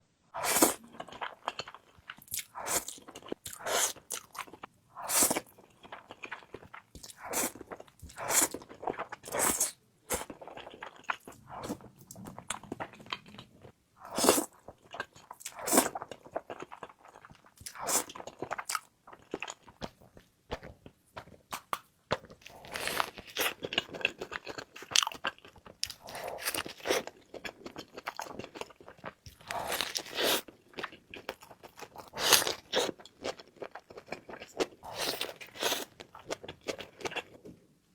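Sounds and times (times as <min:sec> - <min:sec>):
person chewing crunchy food: 0:00.4 - 0:37.6.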